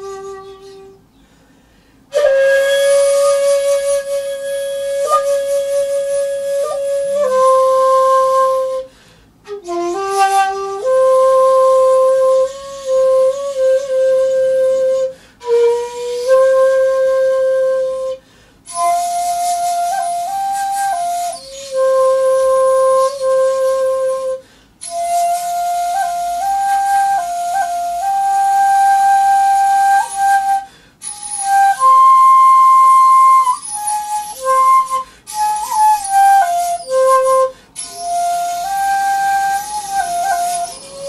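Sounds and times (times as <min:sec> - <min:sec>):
solo bamboo flute melody: 0:00.0 - 0:41.0.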